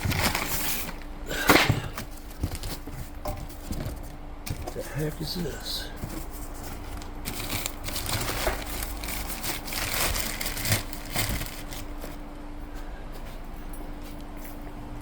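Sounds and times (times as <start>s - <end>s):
packaging crinkling and rustling: 0.0s - 12.3s
steady low hum: 0.0s - 15.0s.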